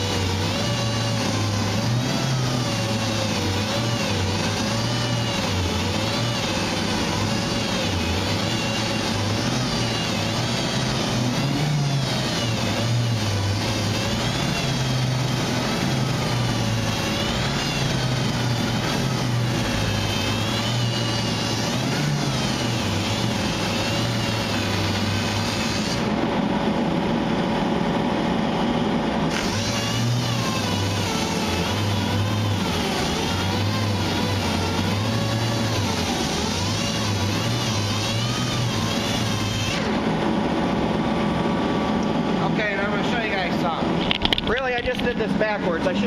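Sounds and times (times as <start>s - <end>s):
power sander whine: 0.0s - 28.6s, 29.3s - 45.2s.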